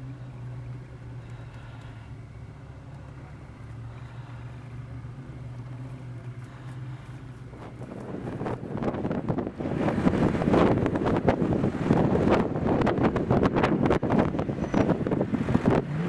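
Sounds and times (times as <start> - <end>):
truck engines running: 0.0 - 16.0.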